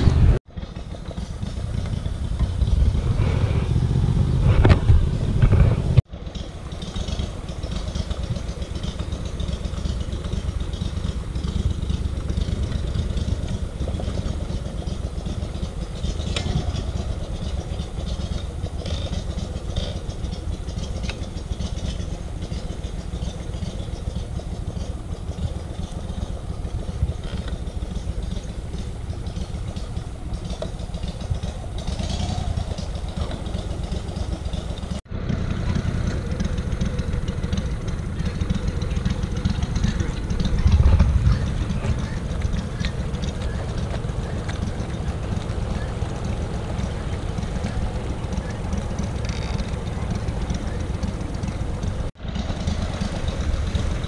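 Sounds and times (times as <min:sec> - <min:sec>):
boat motor droning: 0:00.0 - 0:54.0.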